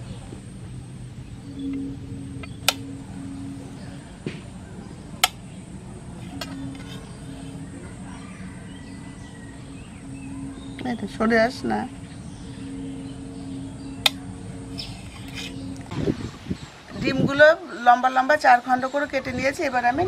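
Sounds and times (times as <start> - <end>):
low hum: 0.0 - 17.6.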